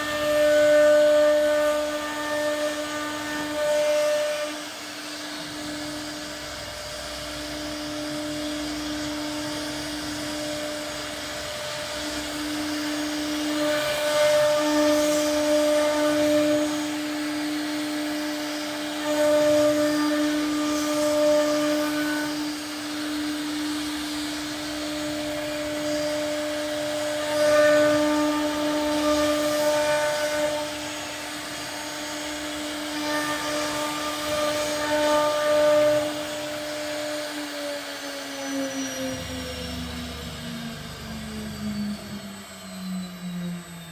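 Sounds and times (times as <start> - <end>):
router bit cutting: 0.0 - 43.9
router spindle whining: 0.0 - 43.9.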